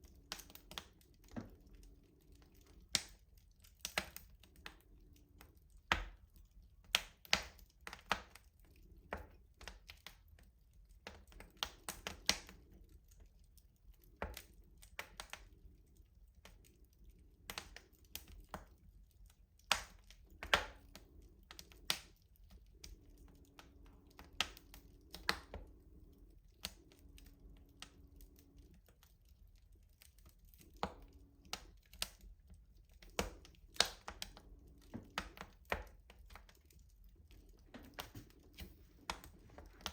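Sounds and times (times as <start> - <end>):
wood fire crackling in stove: 0.0 - 39.9.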